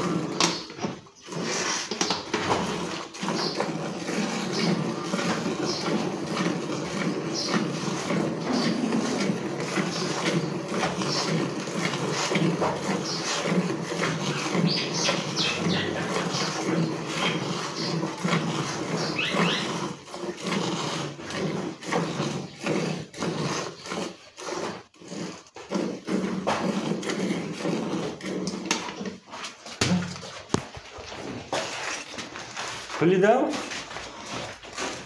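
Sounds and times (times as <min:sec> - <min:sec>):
milk squirting into metal pail: 0:00.0 - 0:33.0.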